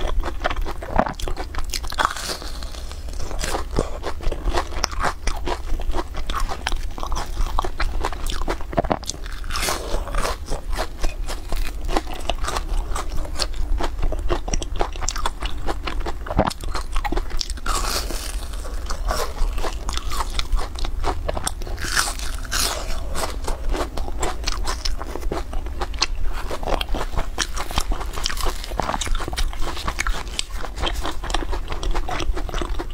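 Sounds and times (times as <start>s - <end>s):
crunching and chewing snack: 0.0s - 32.9s.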